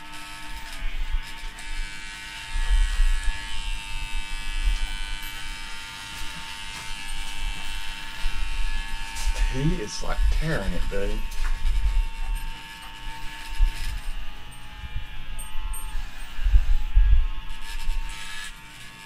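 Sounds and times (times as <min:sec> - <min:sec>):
hair clippers buzzing: 0:00.0 - 0:19.0.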